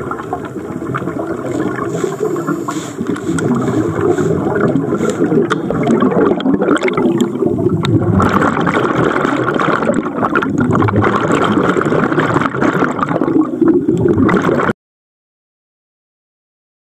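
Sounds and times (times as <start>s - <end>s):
air bubbles underwater: 0.0s - 14.8s.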